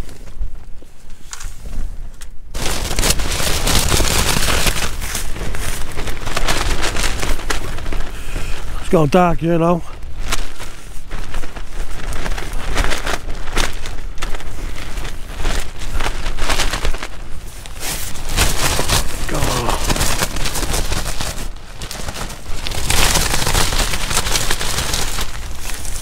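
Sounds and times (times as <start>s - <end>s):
tent fabric flapping: 0.0s - 26.0s.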